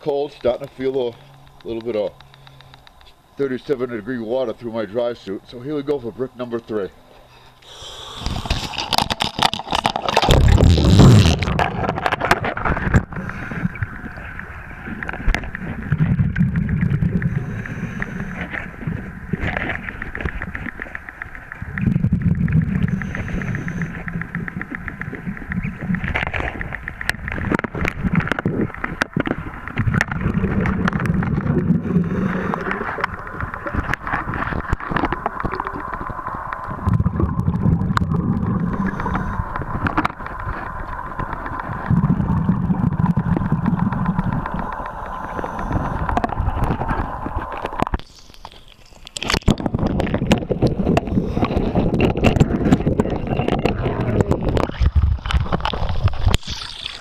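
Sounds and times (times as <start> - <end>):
underwater bubbles rumbling: 8.0 - 48.1, 49.1 - 57.0.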